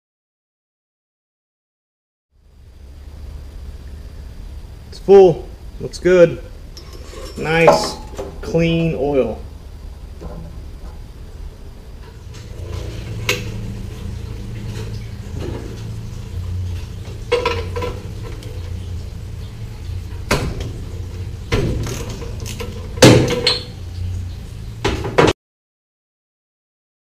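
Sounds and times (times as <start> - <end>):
low steady hum: 2.3 - 25.1.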